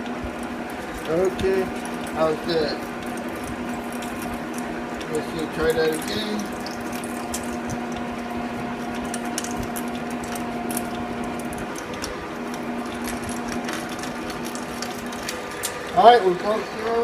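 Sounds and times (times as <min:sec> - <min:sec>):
lathe drive humming: 0:00.0 - 0:17.0.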